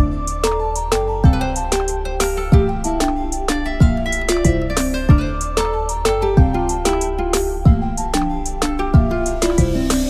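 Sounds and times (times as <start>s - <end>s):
instrumental music with plucked melody: 0.0s - 10.0s.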